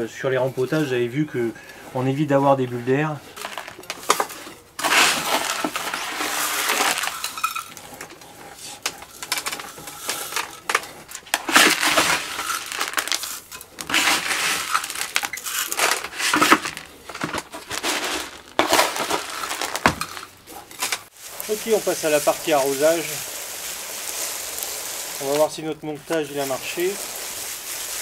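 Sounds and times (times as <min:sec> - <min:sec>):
gravelly soil rattling and crunching: 0:00.0 - 0:28.0.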